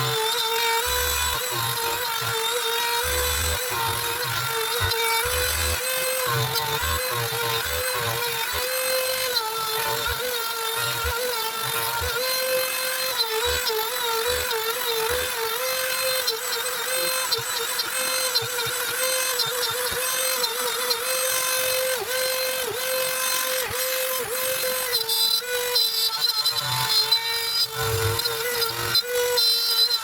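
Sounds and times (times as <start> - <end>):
router spindle whining cutting wood: 0.0 - 30.0.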